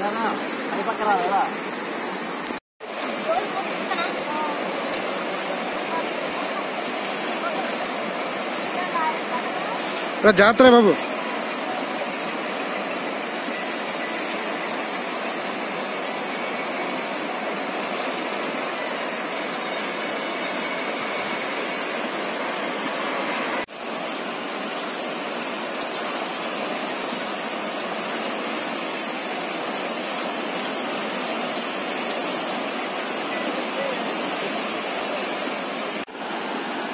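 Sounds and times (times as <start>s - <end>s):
river rushing over rapids: 0.0s - 36.9s.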